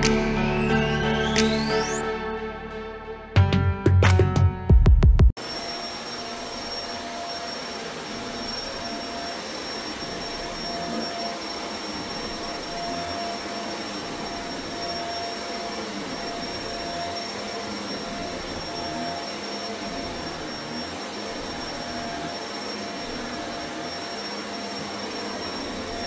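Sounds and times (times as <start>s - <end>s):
vacuum cleaner running: 0.0s - 2.0s, 5.4s - 26.0s
thin high whine: 0.0s - 3.0s, 5.4s - 26.0s.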